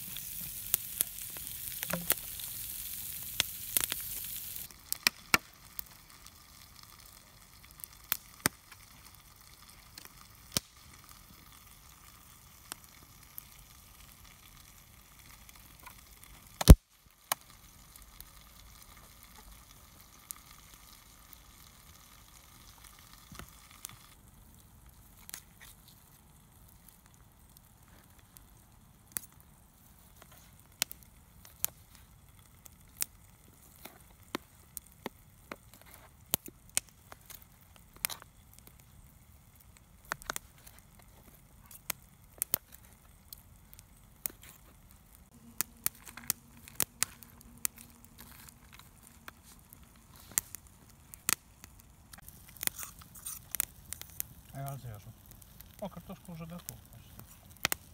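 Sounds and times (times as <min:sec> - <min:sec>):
wood fire sizzling and hissing: 0:00.0 - 0:57.9.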